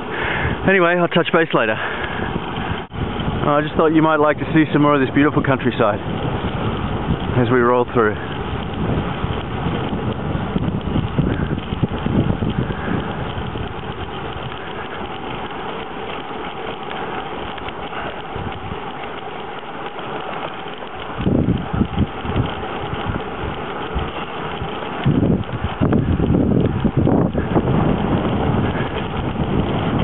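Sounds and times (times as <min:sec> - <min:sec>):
low buffeting rumble: 0:00.0 - 0:30.0
tyres hissing on asphalt: 0:00.0 - 0:30.0
wind rushing over microphone: 0:00.0 - 0:30.0.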